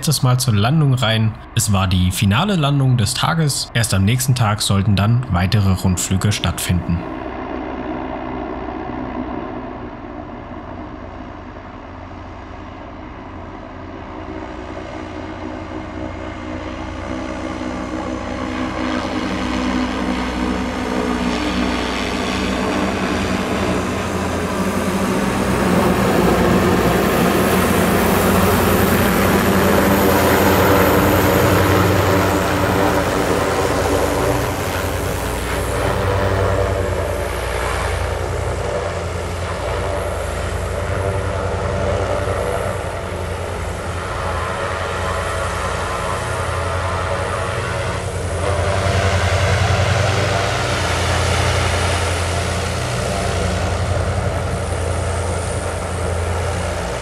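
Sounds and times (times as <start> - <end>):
airship propeller engines humming: 0.0 - 57.0.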